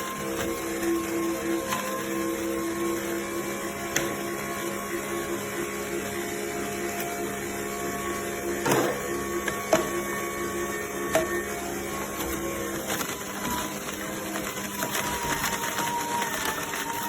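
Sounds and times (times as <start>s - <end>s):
juicer motor pulsing hum: 0.0s - 17.0s.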